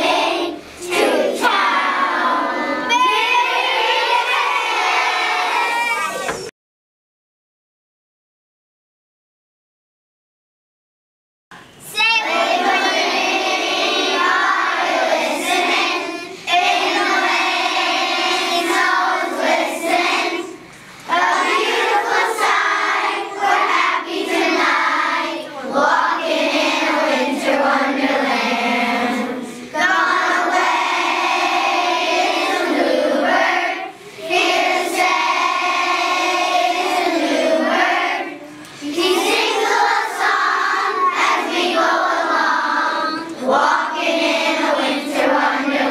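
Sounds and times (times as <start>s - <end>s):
children singing in unison: 0.0s - 6.5s, 11.8s - 45.9s.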